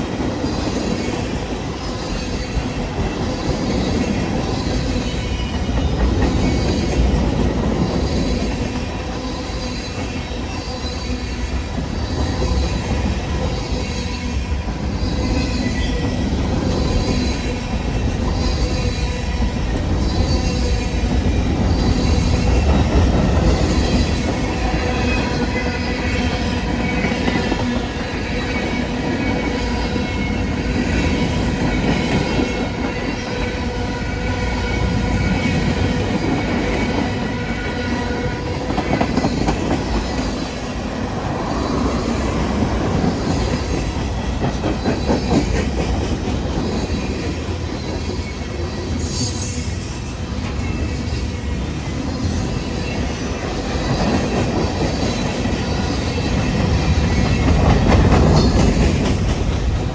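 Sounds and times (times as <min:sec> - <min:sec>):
train wheels clacking on rails: 0:00.0 - 0:59.9.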